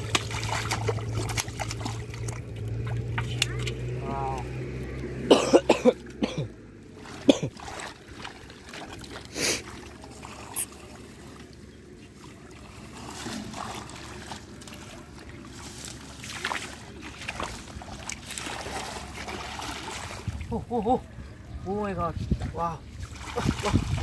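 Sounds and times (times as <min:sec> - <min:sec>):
hands splashing in muddy water: 0:00.0 - 0:05.2, 0:07.0 - 0:11.4, 0:12.1 - 0:20.6, 0:22.9 - 0:24.0.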